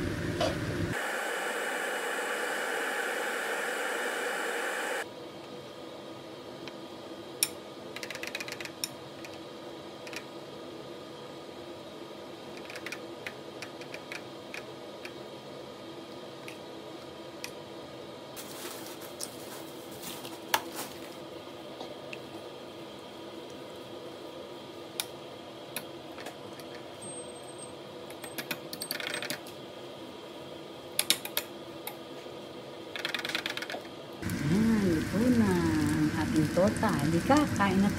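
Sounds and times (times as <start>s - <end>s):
faint steady hum: 0.0s - 33.0s, 33.8s - 37.9s.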